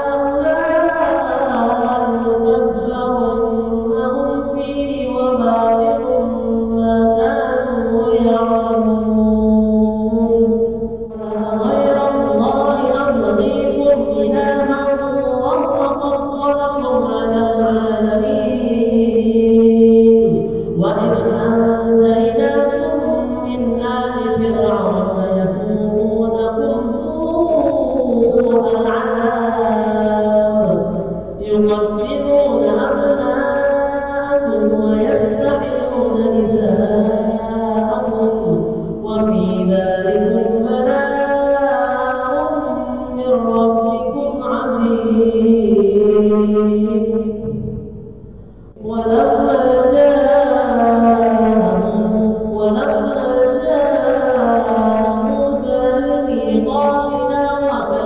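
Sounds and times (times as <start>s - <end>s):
person chanting melodic verses: 0.0s - 48.1s, 48.7s - 58.0s.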